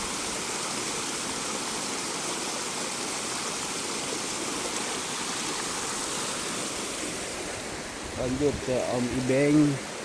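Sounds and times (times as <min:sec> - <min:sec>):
flowing water: 0:00.0 - 0:10.0.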